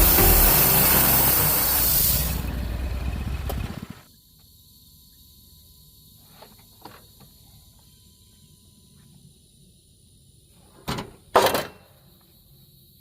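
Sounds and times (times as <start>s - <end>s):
high-pitched outdoor hiss: 0.0s - 2.9s, 4.1s - 13.0s.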